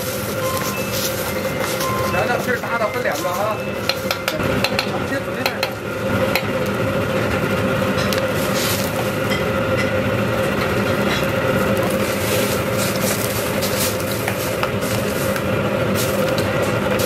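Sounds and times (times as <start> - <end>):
gas burner roar: 0.0 - 17.0
kitchen exhaust hum: 0.0 - 17.0.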